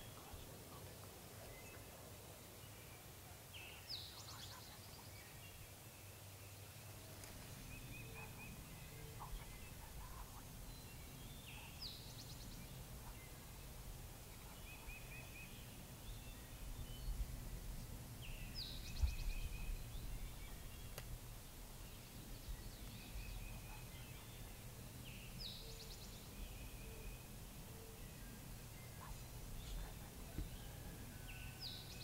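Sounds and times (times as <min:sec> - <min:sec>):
low steady background hiss: 0:00.0 - 0:32.0
songbird singing: 0:00.0 - 0:32.0.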